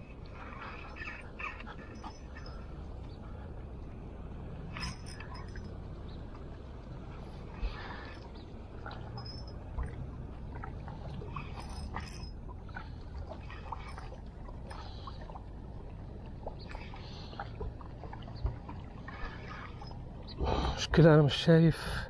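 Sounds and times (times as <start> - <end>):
water lapping at rocky shore: 0.0 - 21.2.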